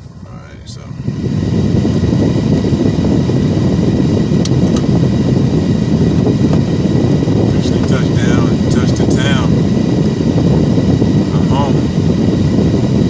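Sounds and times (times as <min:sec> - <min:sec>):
air rushing inside car: 0:00.0 - 0:13.0.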